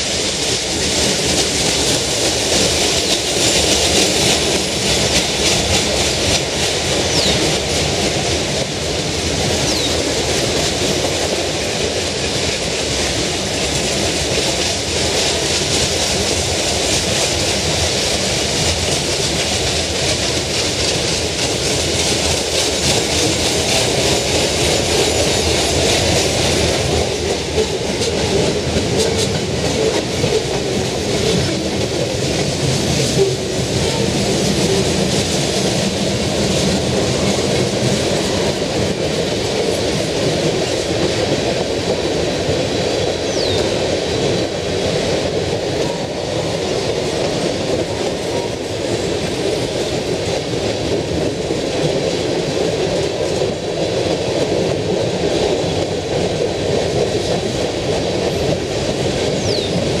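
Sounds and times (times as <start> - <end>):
train wheels rolling on rails: 0.0 - 60.0.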